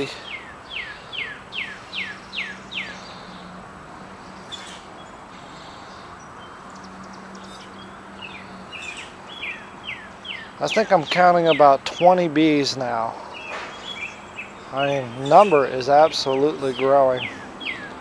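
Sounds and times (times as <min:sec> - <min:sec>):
honeybees humming: 0:00.0 - 0:18.0
songbird chirping: 0:00.0 - 0:18.0.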